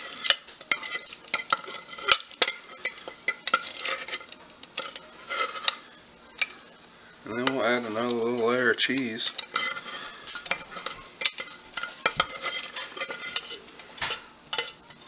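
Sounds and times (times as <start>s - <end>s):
utensil tapping metal pot: 0.0s - 15.0s.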